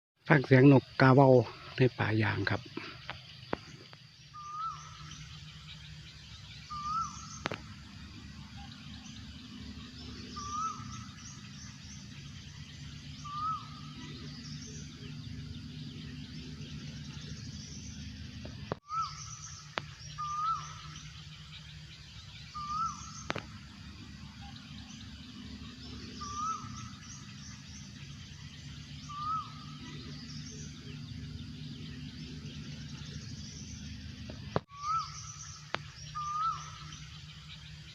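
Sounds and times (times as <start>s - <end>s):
birds chirping faintly: 0.2s - 37.9s
steady low hum: 0.2s - 37.9s.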